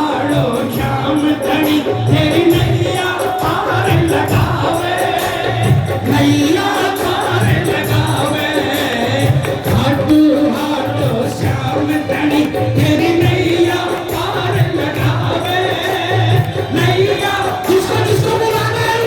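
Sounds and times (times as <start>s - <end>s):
steady drum beat: 0.0s - 19.0s
voices singing along: 0.0s - 19.0s.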